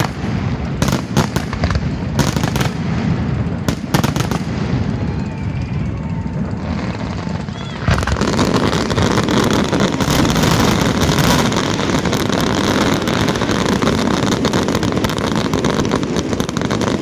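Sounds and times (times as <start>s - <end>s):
fireworks barrage: 0.0s - 17.0s.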